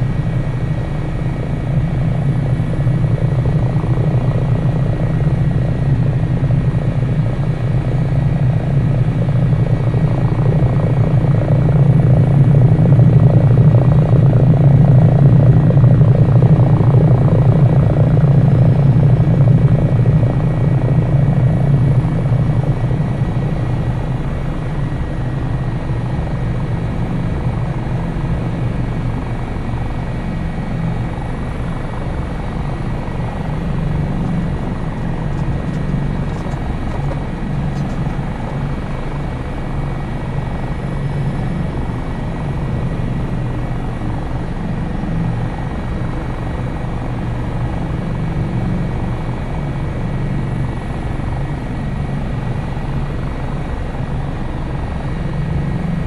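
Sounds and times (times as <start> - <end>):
faint high whine: 0.0 - 56.0
helicopter rotor beat: 0.0 - 56.0.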